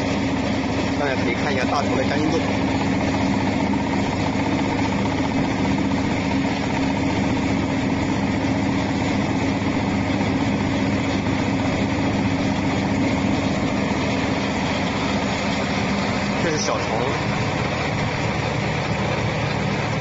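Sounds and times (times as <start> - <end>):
vibrating sieve machine hum: 0.0 - 20.0.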